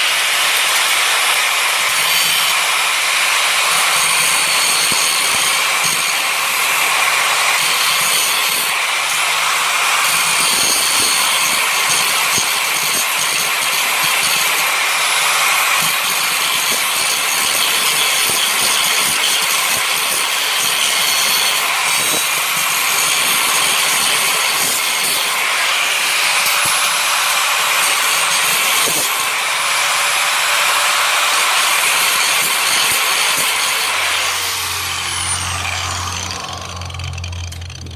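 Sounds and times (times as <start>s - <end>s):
power tool cutting metal: 0.0s - 37.9s.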